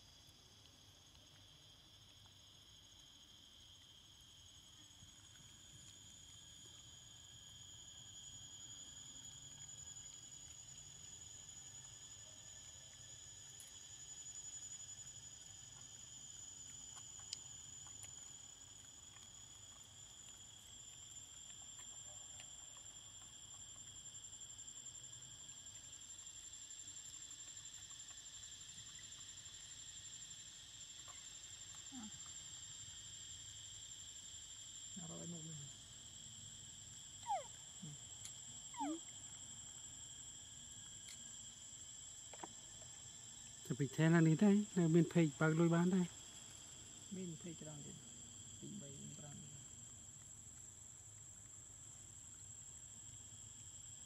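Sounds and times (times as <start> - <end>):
high-pitched insect drone: 1.4 - 49.8.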